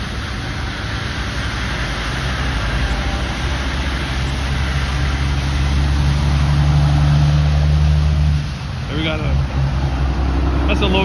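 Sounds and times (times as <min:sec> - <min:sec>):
deep diesel engine hum: 0:00.0 - 0:11.0
tyre hiss on wet road: 0:00.0 - 0:11.0.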